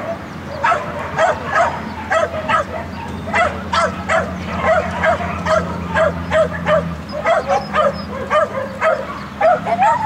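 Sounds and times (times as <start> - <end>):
dog barking: 0.0 - 10.0.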